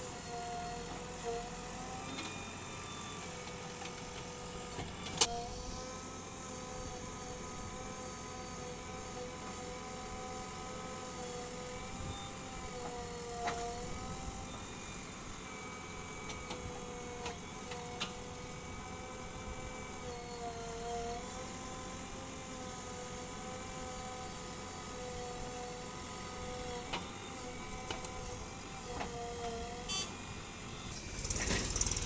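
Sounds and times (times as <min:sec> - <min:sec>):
diesel engine and hydraulics whine: 0:00.0 - 0:32.0.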